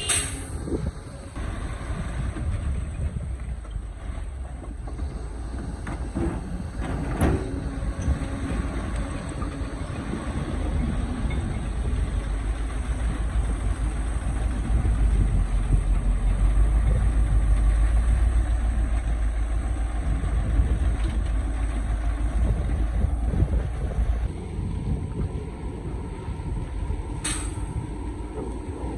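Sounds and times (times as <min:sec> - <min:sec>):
diesel engine rumbling: 0:00.0 - 0:28.9.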